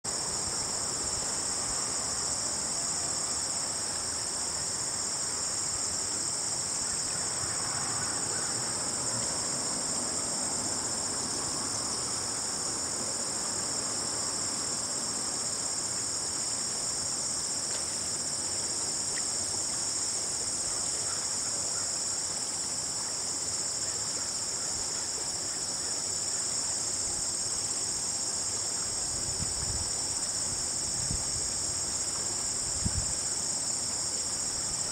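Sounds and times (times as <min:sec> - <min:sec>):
gently flowing river: 0:00.1 - 0:34.9
insects chorus: 0:00.1 - 0:34.9.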